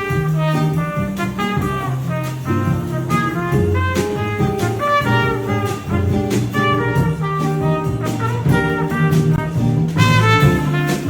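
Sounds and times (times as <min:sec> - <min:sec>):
bass line: 0:00.0 - 0:11.0
drums: 0:00.0 - 0:11.0
trumpet melody: 0:00.0 - 0:11.0.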